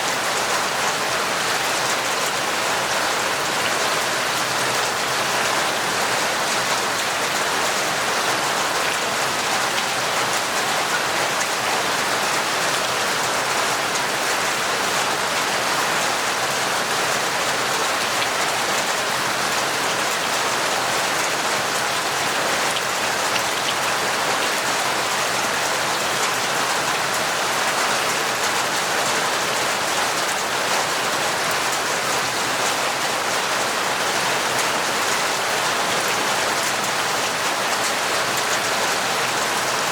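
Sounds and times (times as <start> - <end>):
torrential rain: 0.0 - 39.9.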